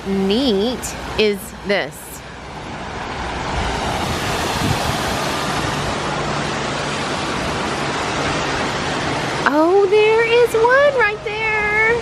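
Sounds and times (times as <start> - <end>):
falling water rushing: 0.0 - 11.6.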